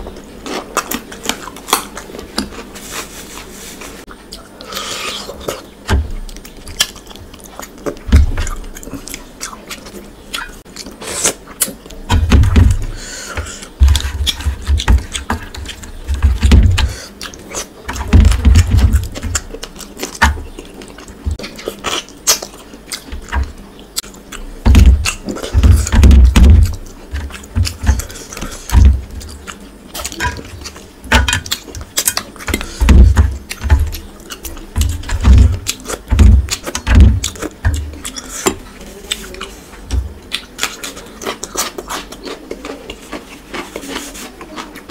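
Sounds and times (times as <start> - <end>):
chewing and lip smacking: 4.1 - 12.1, 13.4 - 25.9, 26.6 - 44.9.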